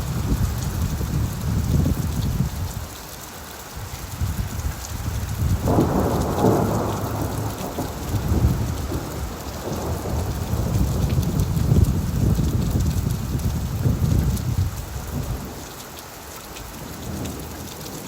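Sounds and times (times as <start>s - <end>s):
low rumble of thunder: 0.0s - 2.9s, 3.9s - 15.7s
rain falling on leaves: 0.0s - 18.0s.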